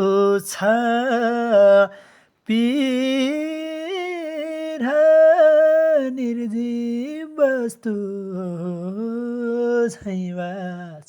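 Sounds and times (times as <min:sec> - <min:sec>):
person singing unaccompanied: 0:00.0 - 0:11.0.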